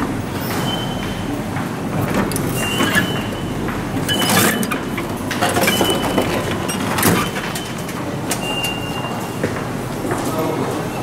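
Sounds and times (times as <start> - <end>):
loud background noise: 0.0 - 11.0.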